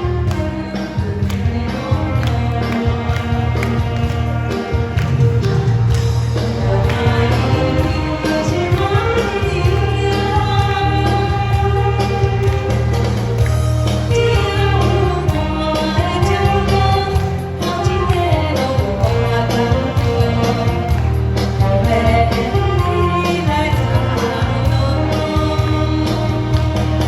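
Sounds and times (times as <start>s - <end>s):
backing track with bass line: 0.0s - 27.0s
person singing: 0.0s - 27.0s.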